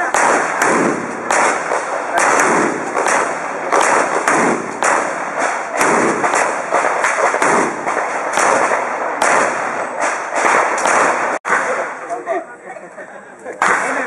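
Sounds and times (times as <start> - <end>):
handgun shots: 0.0 - 11.8.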